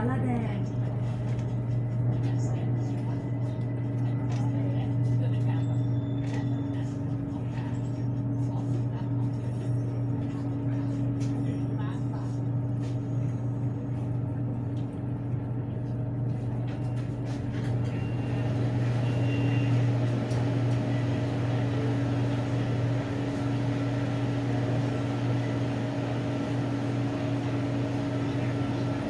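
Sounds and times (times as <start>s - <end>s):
train car humming: 0.0s - 29.0s.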